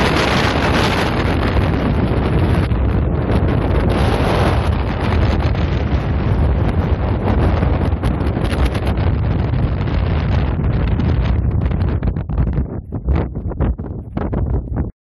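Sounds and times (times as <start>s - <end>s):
wind blowing across microphone: 0.0s - 14.9s.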